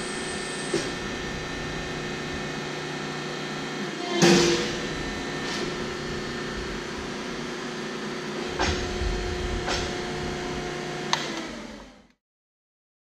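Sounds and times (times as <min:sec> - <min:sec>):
hydraulic pump hum: 0:00.0 - 0:12.2.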